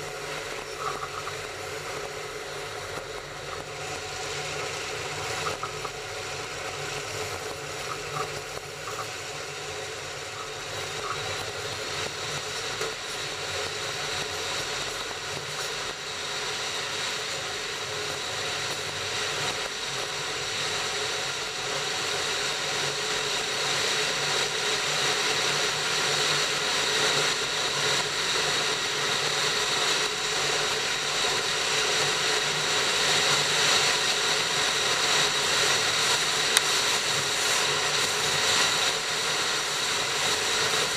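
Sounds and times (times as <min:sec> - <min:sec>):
train rumbling on track: 0:00.0 - 0:40.9.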